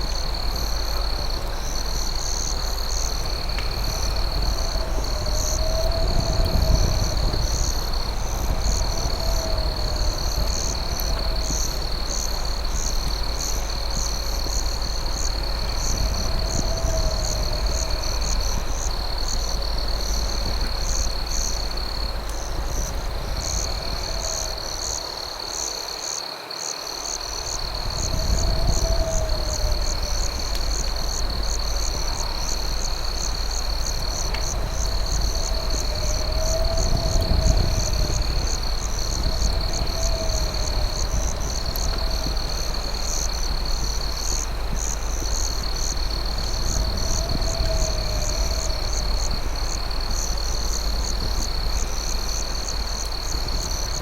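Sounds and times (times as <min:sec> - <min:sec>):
cricket trill: 0:00.0 - 0:54.0.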